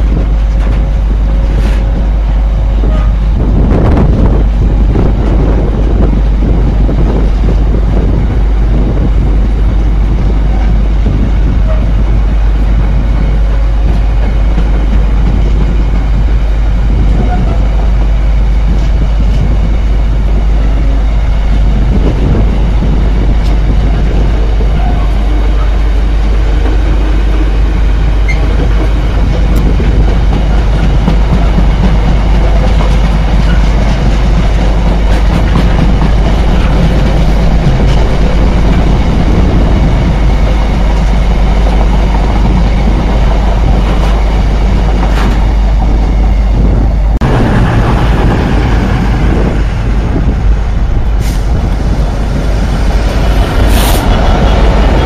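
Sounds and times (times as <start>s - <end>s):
diesel locomotive: 0.0s - 55.0s
freight train wheels rumbling: 0.0s - 55.0s.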